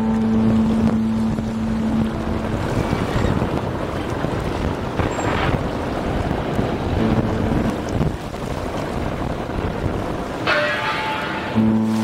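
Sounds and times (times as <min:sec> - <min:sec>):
faint engine hum: 0:00.0 - 0:10.3
low rumble of boat engines: 0:00.0 - 0:12.0
water: 0:00.0 - 0:12.0
wind buffeting microphone: 0:00.0 - 0:12.0.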